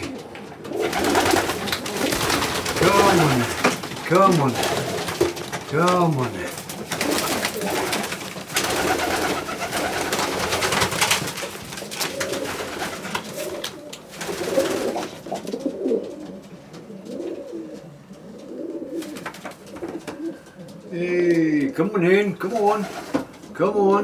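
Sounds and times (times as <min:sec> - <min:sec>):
rustling and clattering: 0:00.0 - 0:20.9
pigeons cooing: 0:00.0 - 0:21.7, 0:22.4 - 0:24.0.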